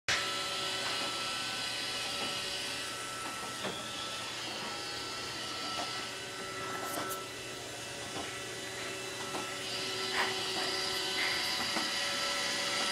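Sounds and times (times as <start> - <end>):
robot vacuum whirring: 0.1 - 12.9.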